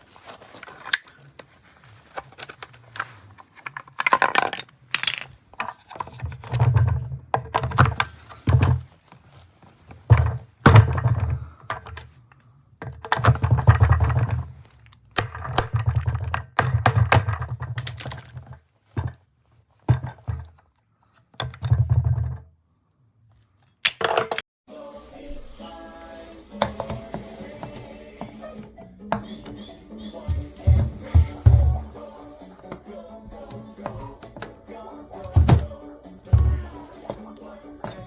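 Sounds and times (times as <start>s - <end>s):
objects thumping and clattering: 0.0s - 12.2s, 12.8s - 22.5s, 26.6s - 38.0s.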